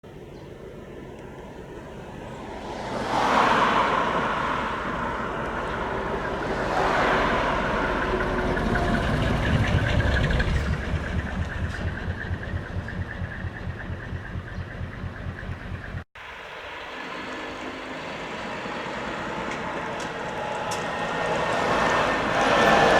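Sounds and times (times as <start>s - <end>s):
diesel truck engines pulling away: 0.7s - 16.1s, 16.7s - 22.9s.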